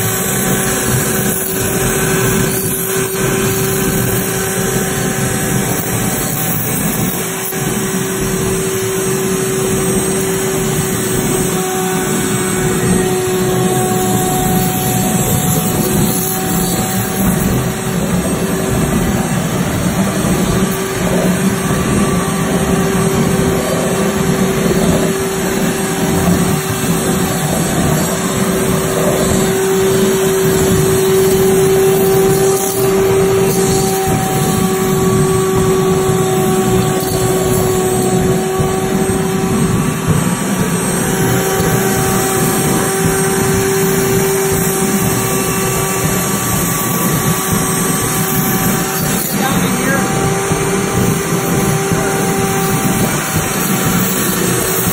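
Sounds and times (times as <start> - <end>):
electric router motor whine: 0.0 - 54.9
hiss of cutting foam: 0.0 - 54.9.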